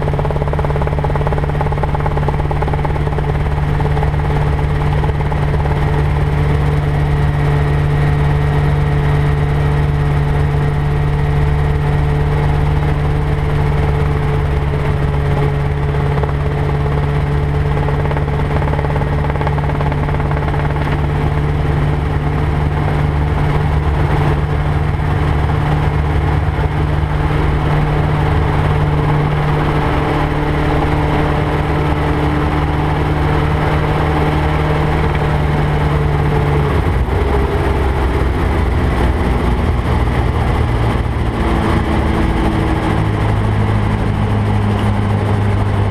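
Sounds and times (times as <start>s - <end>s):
helicopter engine and rotors: 0.0s - 45.9s.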